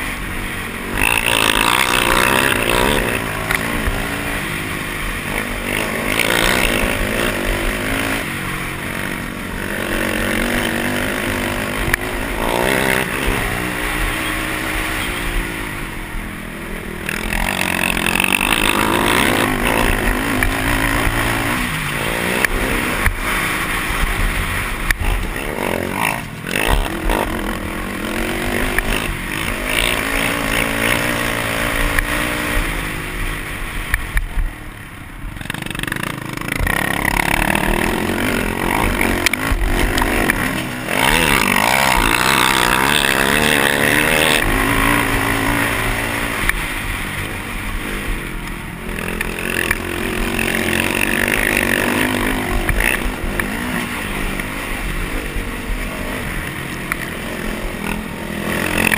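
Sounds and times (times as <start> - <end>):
quad engine revving: 0.0 - 34.4, 35.4 - 58.9.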